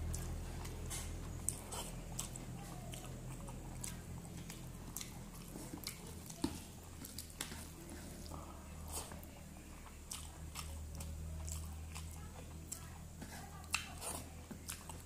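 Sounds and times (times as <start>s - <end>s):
chewing food: 0.0s - 15.0s
low steady hum: 0.0s - 15.0s.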